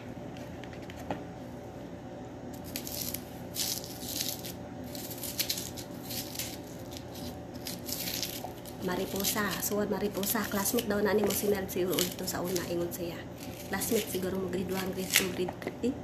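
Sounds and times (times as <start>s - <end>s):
knife peeling onion skin: 2.6s - 15.4s.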